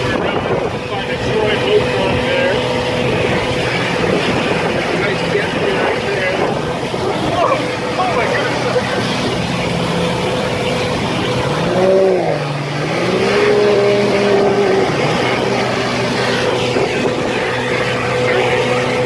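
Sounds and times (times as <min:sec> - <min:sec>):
boat motor running: 0:00.0 - 0:19.0
steady rushing noise: 0:00.0 - 0:19.0.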